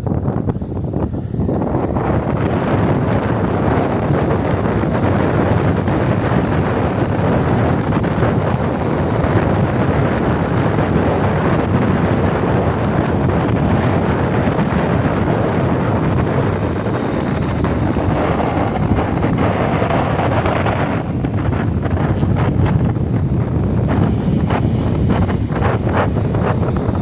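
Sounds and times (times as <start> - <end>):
wind buffeting microphone: 0.0 - 27.0
waves breaking on shore: 3.2 - 27.0.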